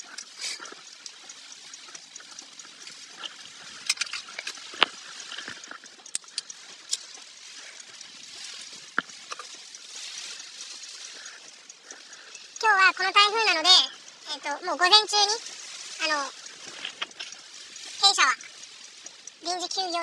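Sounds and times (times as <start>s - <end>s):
raindrops tapping car body: 0.0s - 20.0s
wind and rain hiss: 0.0s - 20.0s.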